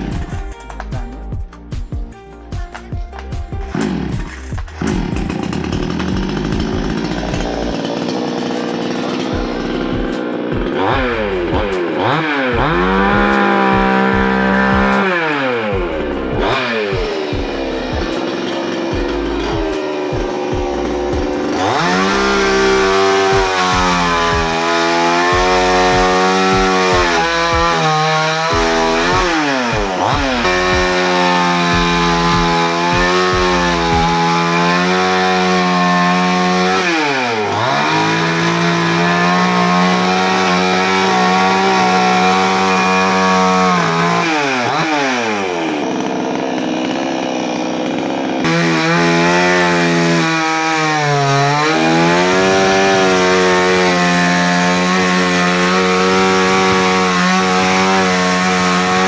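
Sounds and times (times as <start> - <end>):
chainsaw engine revving: 0.0 - 1.8, 2.4 - 59.0.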